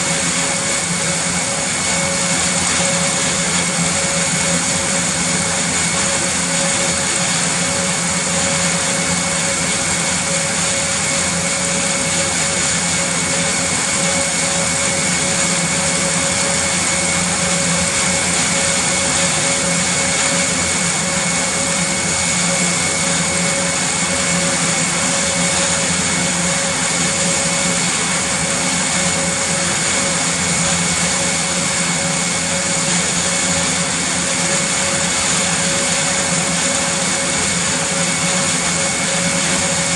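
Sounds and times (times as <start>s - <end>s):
propellers rushing: 0.0s - 39.9s
turboprop engines whining: 0.0s - 39.9s.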